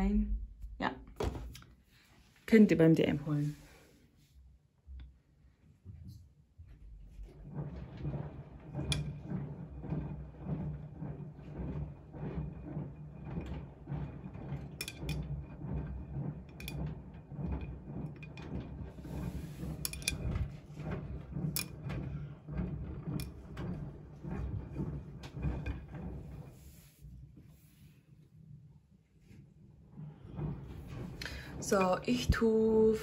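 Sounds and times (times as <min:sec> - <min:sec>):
washing machine drum tumbling laundry: 0:00.0 - 0:03.9, 0:05.7 - 0:33.0
washing machine motor hum: 0:00.0 - 0:33.0.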